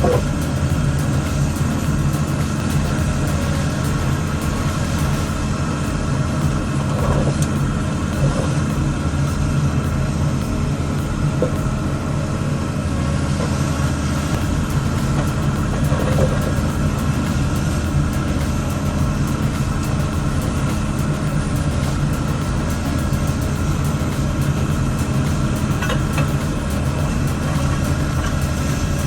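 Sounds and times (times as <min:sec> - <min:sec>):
heavy machine engine running: 0:00.0 - 0:29.0.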